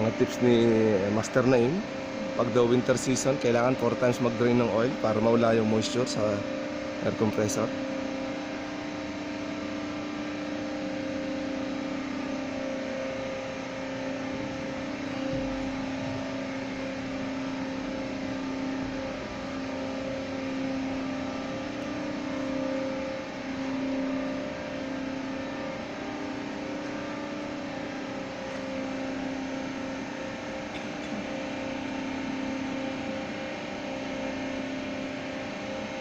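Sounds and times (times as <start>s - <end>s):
industrial machinery drone: 0.0s - 36.0s
two-tone hum: 0.0s - 36.0s.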